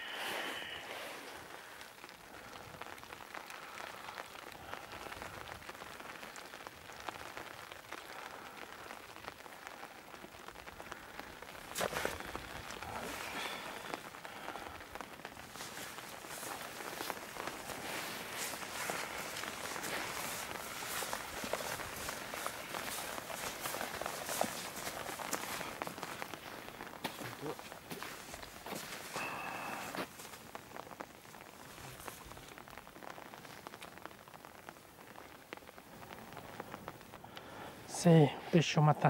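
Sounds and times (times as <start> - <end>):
rain pattering on umbrella canopy: 0.0 - 39.0.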